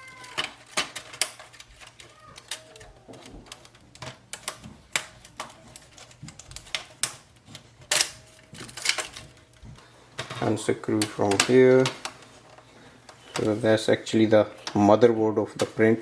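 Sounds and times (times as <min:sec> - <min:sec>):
plastic parts clicking and knocking: 0:00.0 - 0:13.6.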